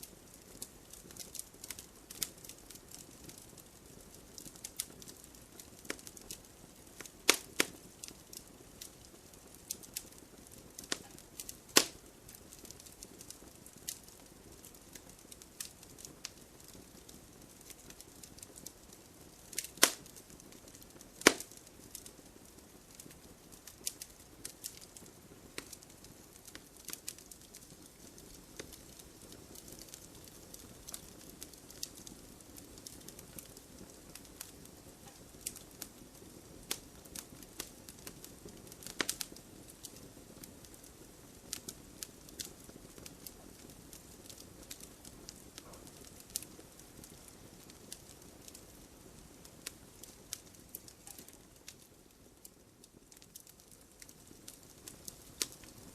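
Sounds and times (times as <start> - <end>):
soft low hiss: 0.0 - 55.9
wood fire crackling: 0.0 - 55.9.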